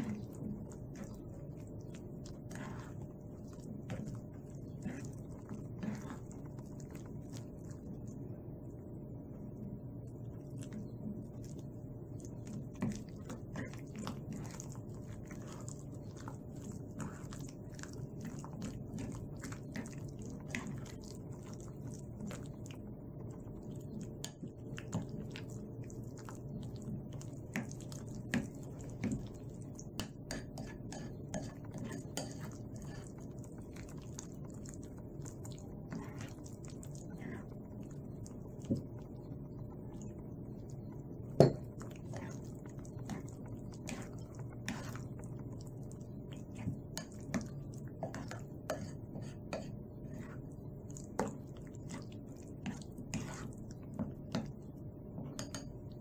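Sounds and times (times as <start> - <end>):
wet squelching of batter: 0.0 - 56.0.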